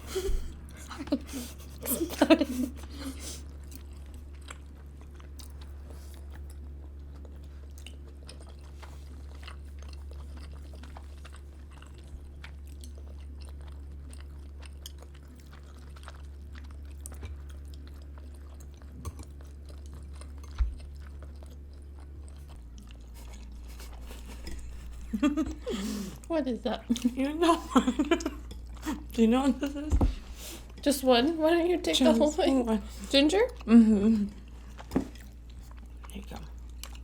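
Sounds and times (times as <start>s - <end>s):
steady low hum: 0.0s - 37.0s
chewing and biting food: 0.2s - 37.0s.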